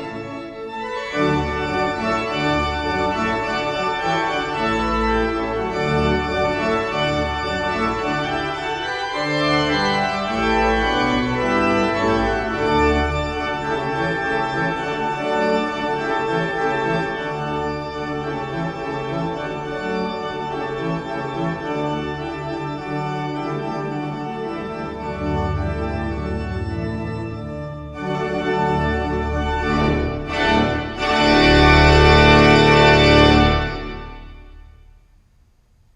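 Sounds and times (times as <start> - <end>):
organ playing chords: 0.0 - 35.0.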